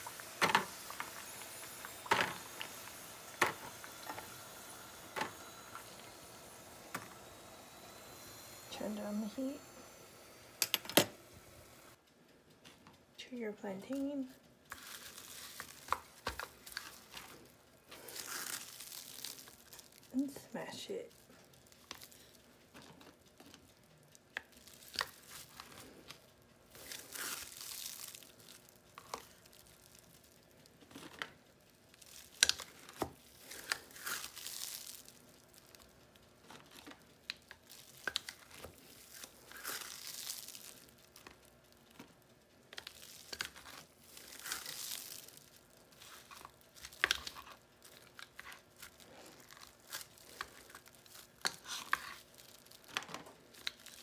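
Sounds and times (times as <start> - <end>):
plastic cling film crinkling: 0.0 - 10.0, 13.7 - 54.0.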